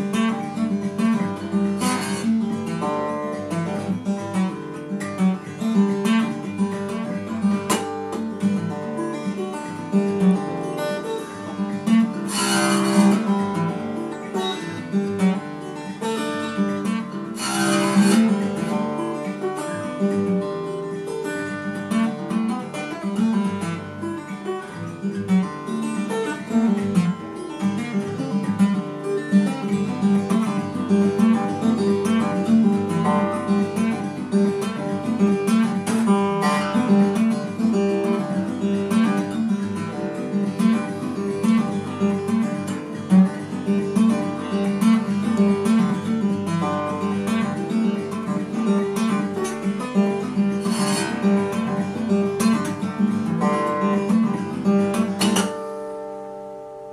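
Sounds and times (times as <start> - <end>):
acoustic guitar playing: 0.0 - 56.9.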